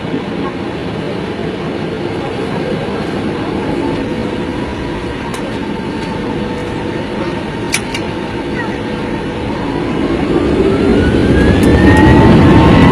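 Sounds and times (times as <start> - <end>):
jet cabin engine noise: 0.0 - 12.9.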